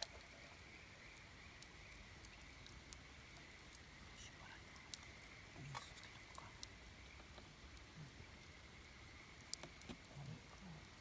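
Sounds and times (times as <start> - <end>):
faint campfire crackling: 0.0 - 11.0
sharp campfire pops: 0.0 - 11.0.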